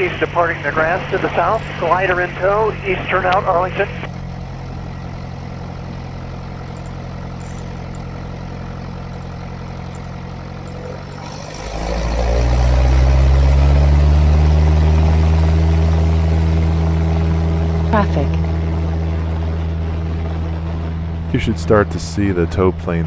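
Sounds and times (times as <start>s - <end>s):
propeller plane engine running: 0.0s - 23.0s.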